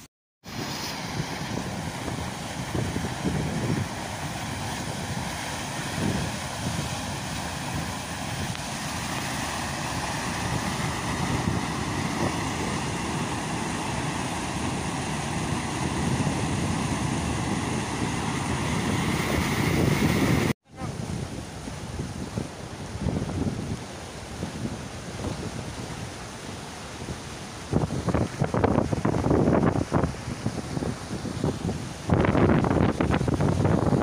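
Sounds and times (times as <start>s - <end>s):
water rushing over weir: 0.0s - 34.0s.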